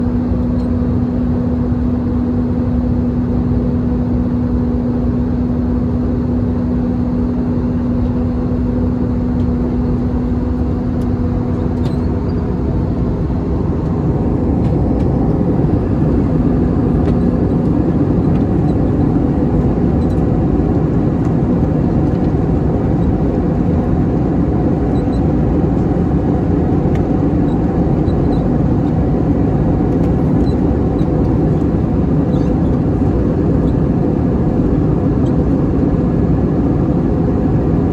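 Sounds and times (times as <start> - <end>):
jet engines roaring in cabin: 0.0 - 37.9
steady hum: 0.0 - 37.9.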